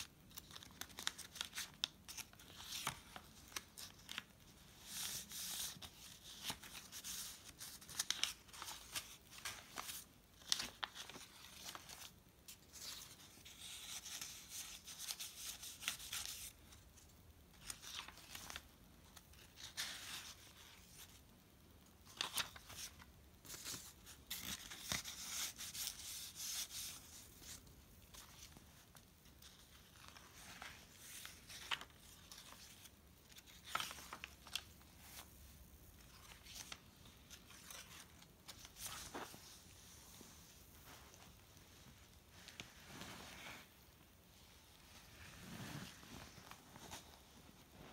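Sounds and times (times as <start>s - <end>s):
paper pages rustling: 0.0s - 16.7s, 17.5s - 21.2s, 22.0s - 43.8s, 44.8s - 47.9s.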